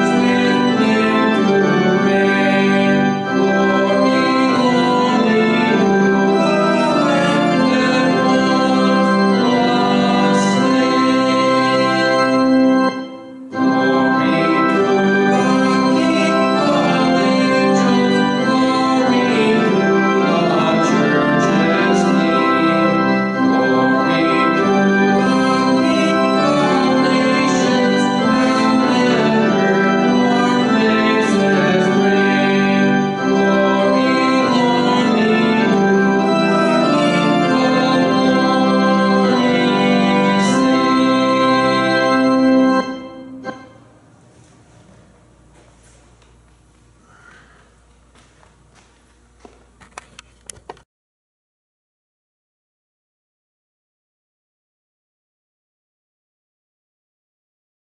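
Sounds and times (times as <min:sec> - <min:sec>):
church organ playing chords: 0:00.0 - 0:49.0.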